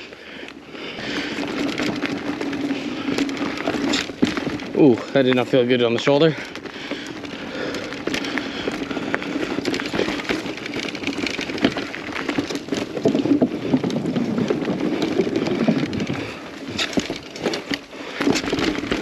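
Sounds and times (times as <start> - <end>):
bike clicking and rattling: 0.0 - 19.0
bike tyres rolling over dirt: 0.0 - 19.0.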